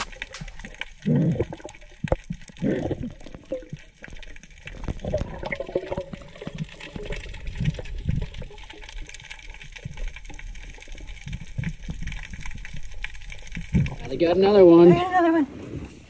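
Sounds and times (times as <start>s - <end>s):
small underwater clicks: 0.0s - 14.3s
muffled underwater water rush: 0.0s - 16.0s.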